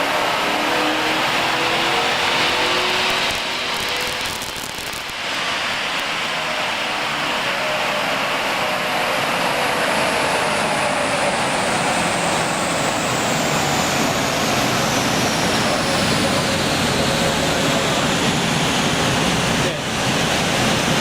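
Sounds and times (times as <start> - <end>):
car engine under load: 0.0 - 21.0.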